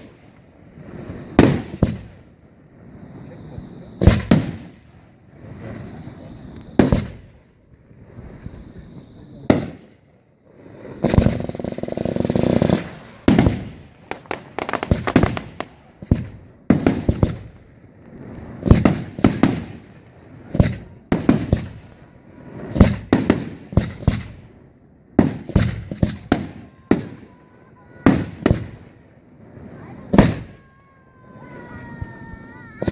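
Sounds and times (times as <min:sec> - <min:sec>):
fireworks bursting: 0:00.0 - 0:32.9.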